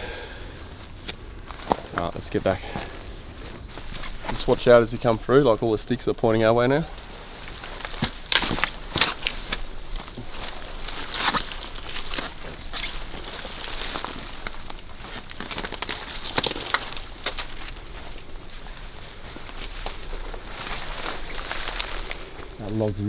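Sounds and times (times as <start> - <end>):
footsteps through marsh scrub: 0.0 - 23.0
reeds and sticks crackling: 0.0 - 23.0.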